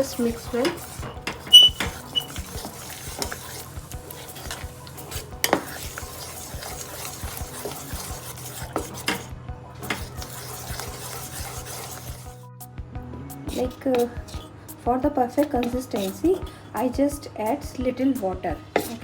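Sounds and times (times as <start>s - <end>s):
spoon stirring thick batter: 0.0s - 12.5s, 13.3s - 19.0s.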